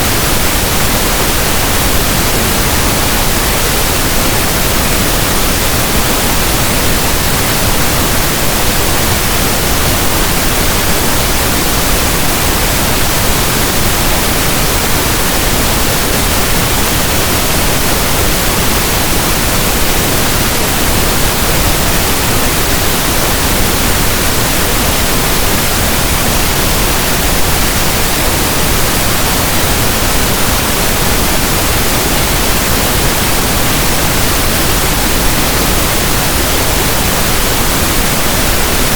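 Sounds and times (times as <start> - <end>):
steady pink noise hiss: 0.0 - 38.9.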